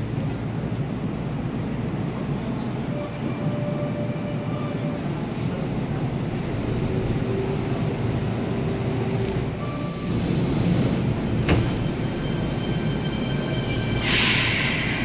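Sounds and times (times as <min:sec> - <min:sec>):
train humming at platform: 0:00.0 - 0:15.0.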